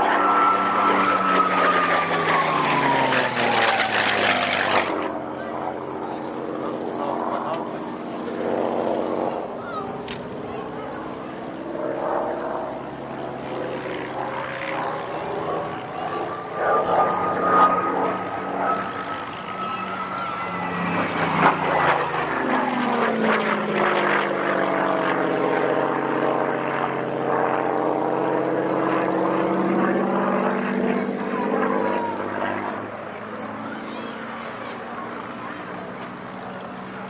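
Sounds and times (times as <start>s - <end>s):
propeller aircraft flying past: 0.0s - 37.0s.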